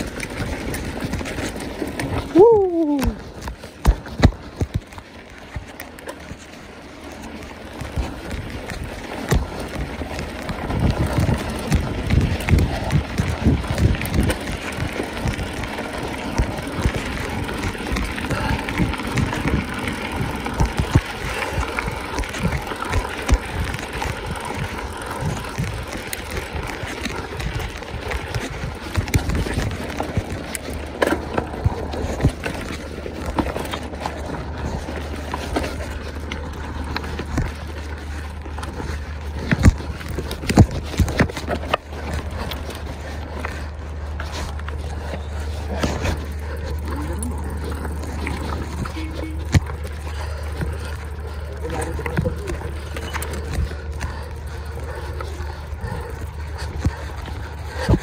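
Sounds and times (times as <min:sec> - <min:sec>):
bike rattling and knocking: 0:00.0 - 0:58.0
bike tyre noise on trail: 0:00.0 - 0:58.0
low steady rumble: 0:00.0 - 0:58.0.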